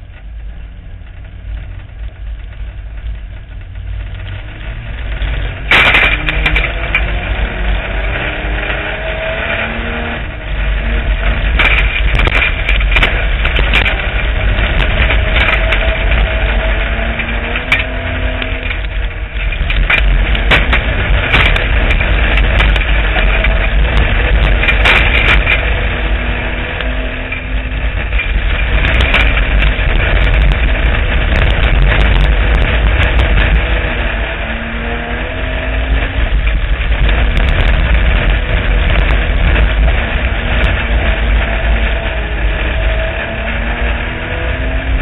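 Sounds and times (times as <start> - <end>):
car body rattling and clattering: 0.0 - 45.0
race car engine rumble: 0.0 - 45.0.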